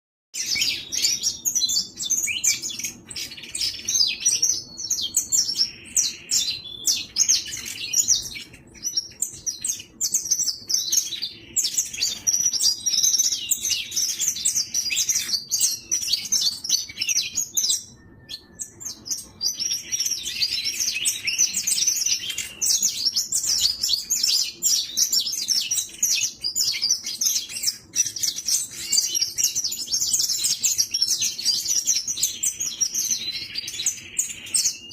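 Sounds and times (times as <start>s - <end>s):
finch singing high chirps and trills: 0.4s - 34.9s.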